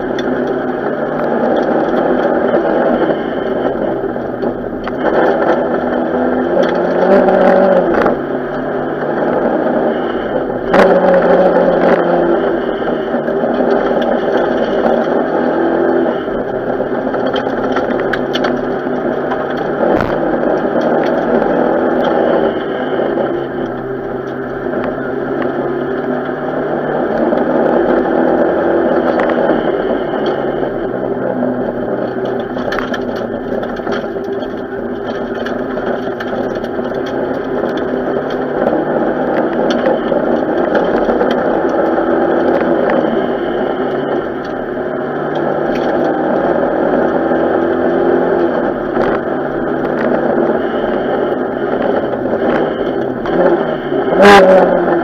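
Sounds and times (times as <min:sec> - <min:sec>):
rally car engine running hard: 0:00.0 - 0:55.0.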